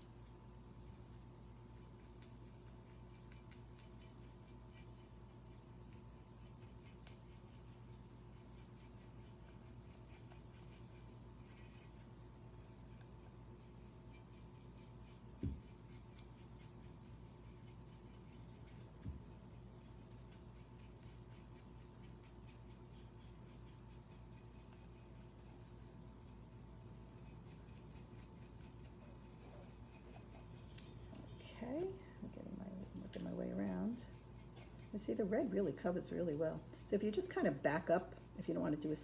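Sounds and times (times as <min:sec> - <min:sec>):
steady low hum: 0:00.0 - 0:39.0
paintbrush rubbing on ceramic: 0:01.1 - 0:31.9, 0:32.6 - 0:39.0.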